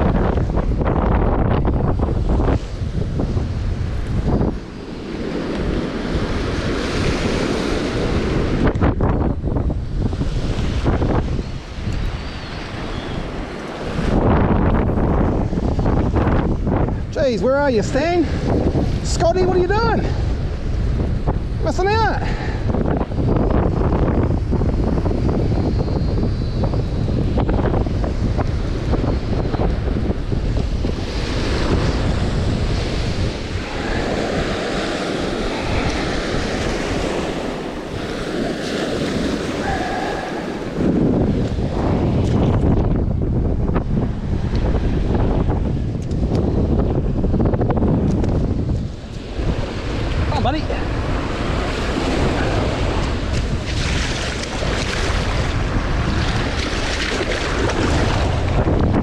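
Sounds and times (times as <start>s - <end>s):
surf waves breaking: 0.0s - 25.4s, 26.9s - 47.6s, 48.2s - 59.0s
wind buffeting microphone: 0.0s - 59.0s.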